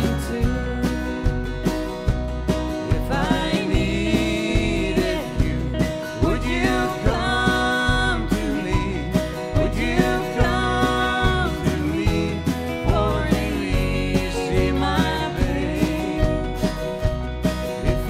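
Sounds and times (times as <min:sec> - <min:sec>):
bass: 0:00.0 - 0:18.0
drums: 0:00.0 - 0:18.0
pedal steel guitar sliding: 0:00.0 - 0:18.0
strummed acoustic guitars: 0:00.0 - 0:18.0.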